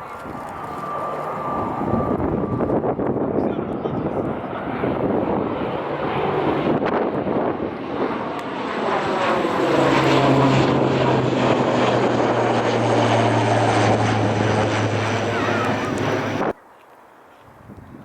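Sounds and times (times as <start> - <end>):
airliner engines roaring: 0.0 - 16.6.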